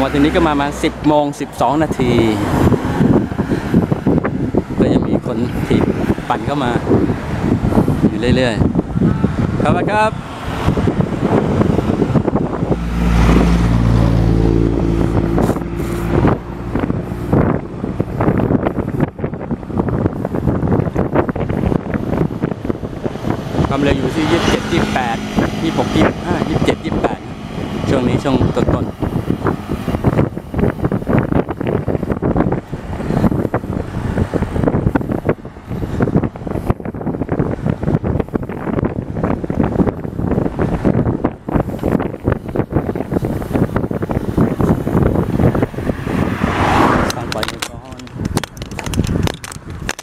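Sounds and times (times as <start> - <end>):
vehicle engine humming: 0.0 - 50.0
wind buffeting microphone: 0.0 - 50.0.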